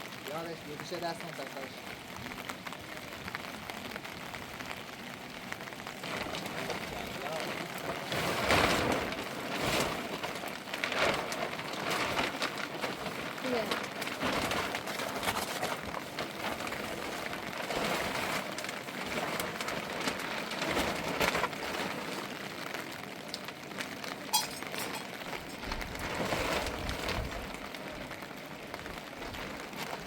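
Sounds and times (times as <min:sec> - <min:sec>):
rain falling on surfaces: 0:00.0 - 0:30.0.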